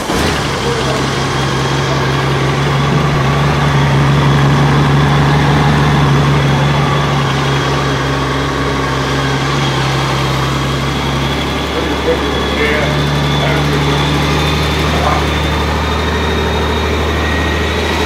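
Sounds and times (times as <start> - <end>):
motorcycle engine idling: 0.5 - 18.0.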